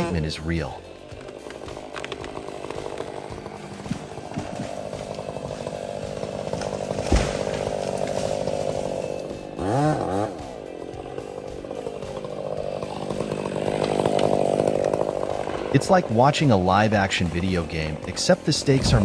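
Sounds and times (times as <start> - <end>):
chainsaw running: 0.0 - 19.0.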